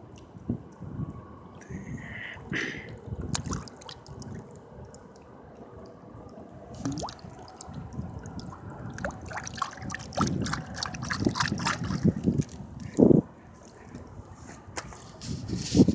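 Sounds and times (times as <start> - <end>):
water splashing and trickling: 0.0 - 15.9.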